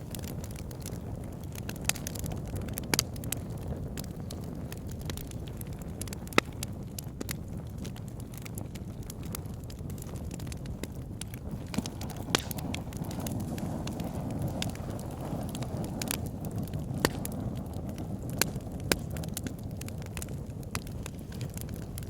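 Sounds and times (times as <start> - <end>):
logs crackling and popping: 0.0 - 22.0
low rush of flames: 0.0 - 22.0.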